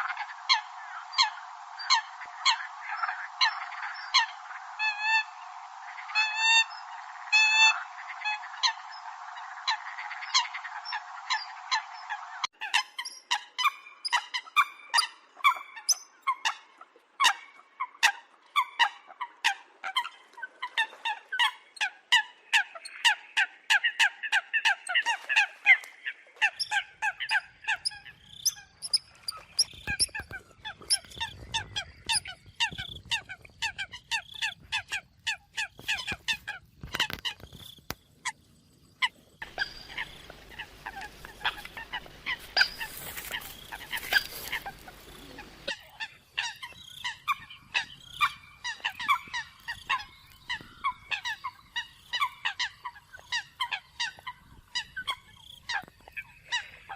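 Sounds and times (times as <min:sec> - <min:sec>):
coots calling: 0:06.0 - 0:56.9.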